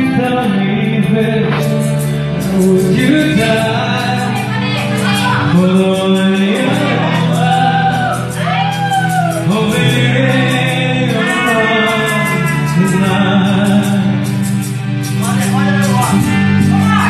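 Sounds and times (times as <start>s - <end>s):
backing track music: 0.0s - 17.0s
man singing karaoke: 0.0s - 17.0s.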